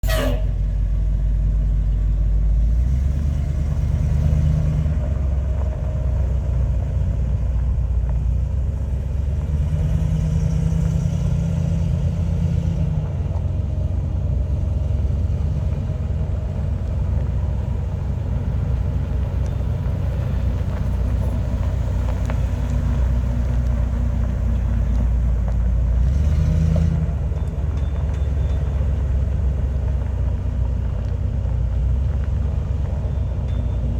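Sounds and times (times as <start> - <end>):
truck engine rumbling: 0.0 - 33.9.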